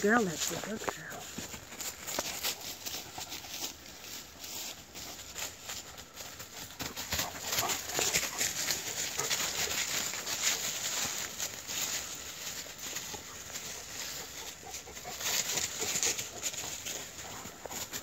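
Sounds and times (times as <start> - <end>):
dry leaves crunching under paws: 0.0 - 18.0
footsteps on dry leaves: 0.0 - 18.0.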